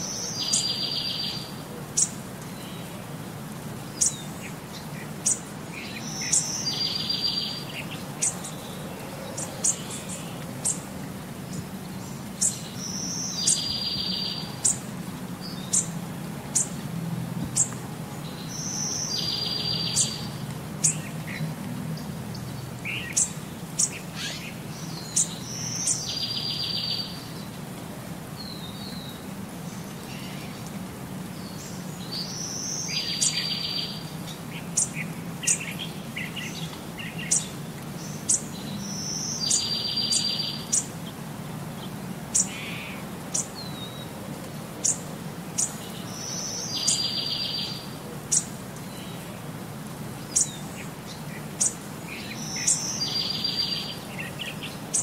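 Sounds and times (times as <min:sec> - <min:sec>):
birds chirping and calling: 0:00.0 - 0:02.9, 0:03.9 - 0:16.8, 0:17.5 - 0:27.5, 0:31.4 - 0:44.1, 0:44.8 - 0:49.3, 0:50.2 - 0:55.0.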